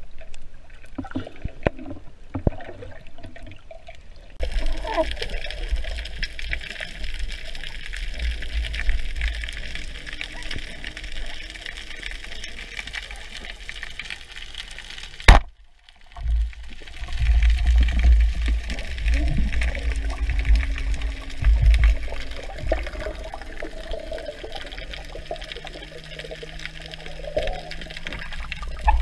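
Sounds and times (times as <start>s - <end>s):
underwater low rumble: 0.0s - 29.0s
underwater crackling hiss: 4.4s - 15.3s, 16.2s - 29.0s.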